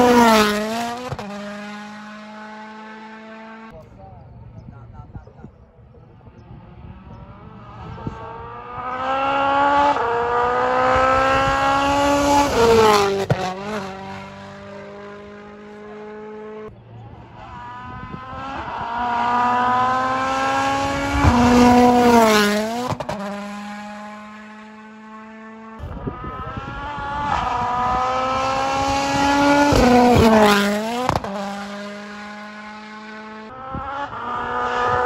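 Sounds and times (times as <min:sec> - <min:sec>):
rally cars passing at speed: 0:00.0 - 0:03.8, 0:04.4 - 0:35.0.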